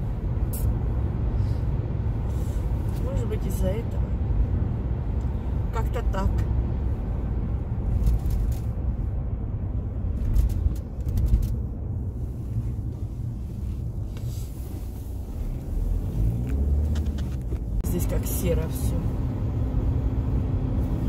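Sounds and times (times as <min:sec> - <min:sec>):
car engine rumble: 0:00.0 - 0:21.0
tyres on road: 0:00.0 - 0:21.0.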